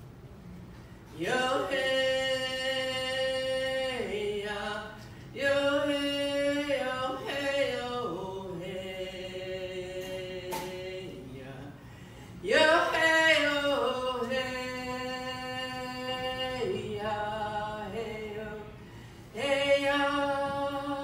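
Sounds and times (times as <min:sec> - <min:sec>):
woman singing unaccompanied chant: 0:01.2 - 0:11.8, 0:12.4 - 0:21.0.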